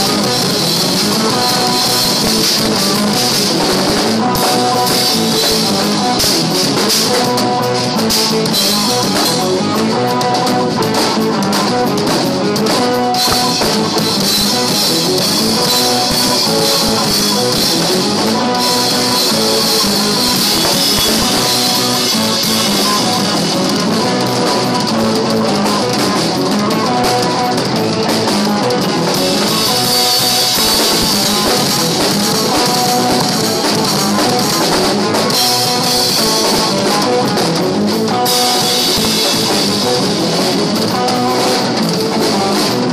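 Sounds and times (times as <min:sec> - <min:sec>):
rock music with drums and guitar: 0:00.0 - 0:42.9.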